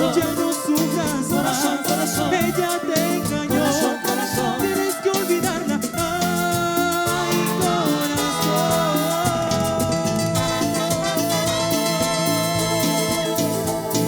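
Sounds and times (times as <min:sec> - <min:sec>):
percussion beat: 0:00.0 - 0:14.0
person singing: 0:00.0 - 0:14.0
tropical dance band music: 0:00.0 - 0:14.0.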